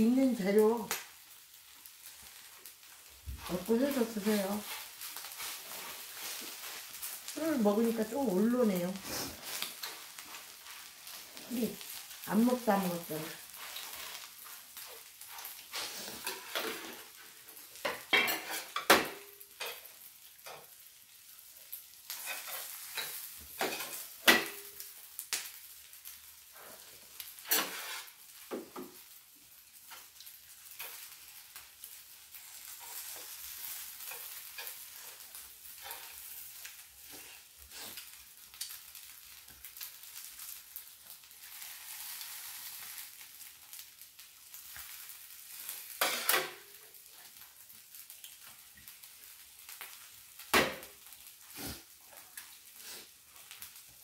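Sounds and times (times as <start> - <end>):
pancake sizzling on a griddle: 0.0 - 54.0.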